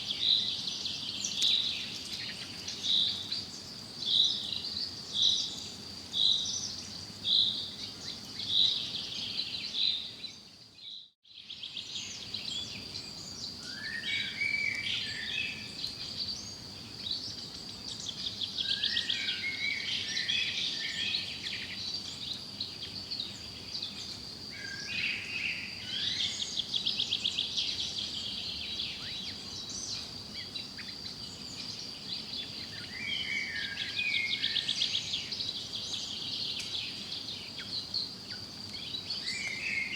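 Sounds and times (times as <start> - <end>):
birds singing and chirping: 0.0 - 39.9
regular bird chirp: 0.0 - 39.9.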